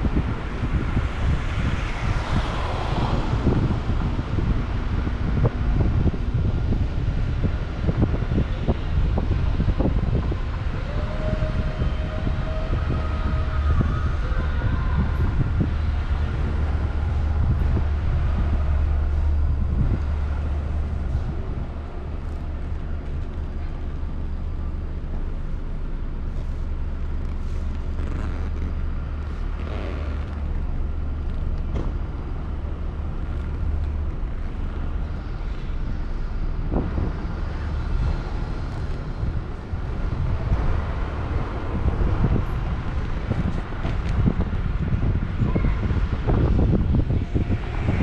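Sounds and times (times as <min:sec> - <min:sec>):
car engine rumble: 0:00.0 - 0:48.0
tyres on road: 0:00.0 - 0:48.0.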